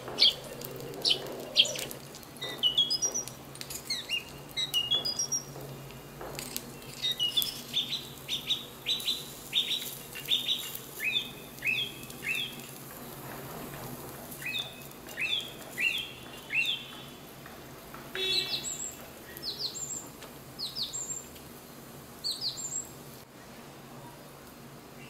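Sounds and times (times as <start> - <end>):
birds chirping: 0.0 - 13.2, 14.3 - 21.3.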